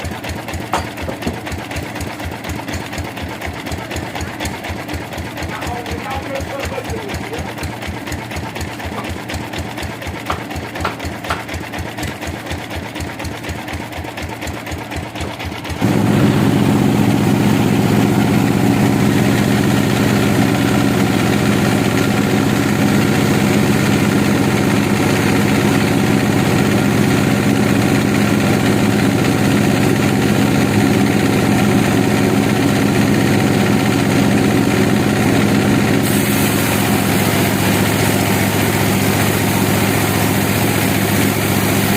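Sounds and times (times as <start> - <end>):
engine running with even thuds: 0.0 - 2.8, 5.7 - 41.9
steady machine run: 0.0 - 41.9.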